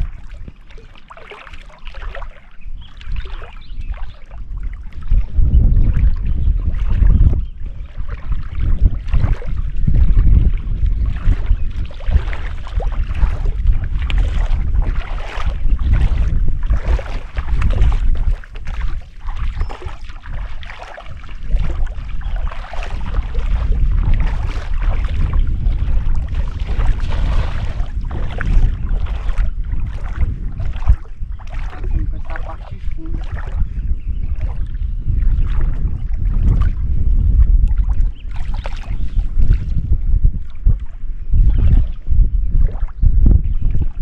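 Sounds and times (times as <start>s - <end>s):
water splashing: 0.0s - 42.0s
wind buffeting microphone: 0.0s - 44.0s.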